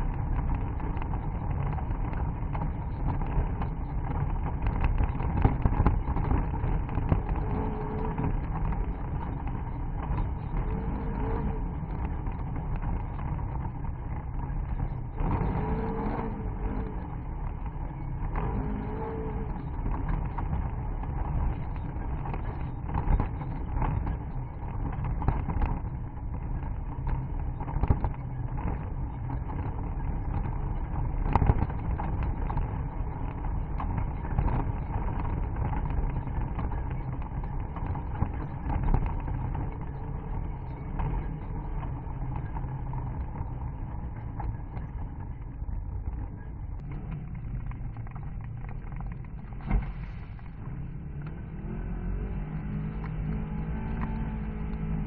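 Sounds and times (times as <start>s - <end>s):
vehicle knocks and jolts: 0.0s - 51.4s
off-road vehicle engine running: 0.0s - 55.0s.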